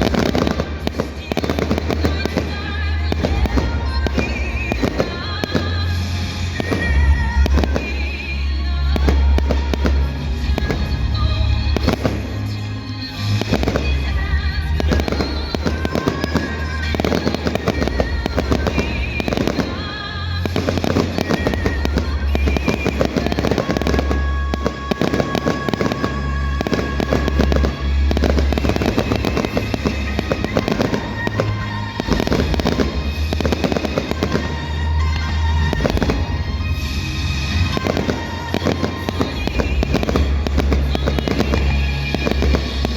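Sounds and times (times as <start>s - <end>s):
fireworks bursting and crackling: 0.0s - 42.9s
loud music: 0.0s - 42.9s.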